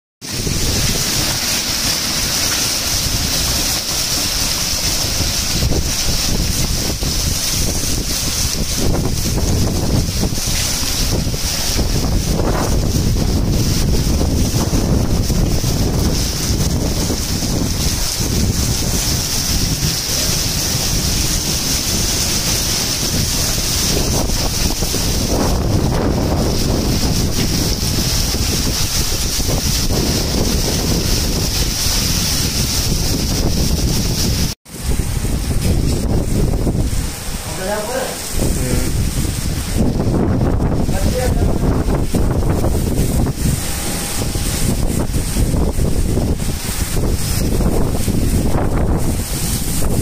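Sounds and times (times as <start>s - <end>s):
heavy rain and hail on pavement: 0.2s - 50.0s
wind rumbling on microphone: 0.2s - 50.0s.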